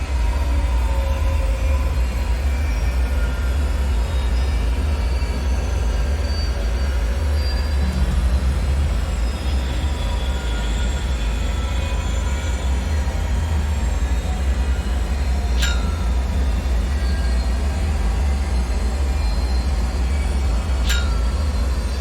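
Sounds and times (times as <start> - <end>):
deep low rumble: 0.0 - 22.0
faint metallic whines and squeals: 0.0 - 22.0.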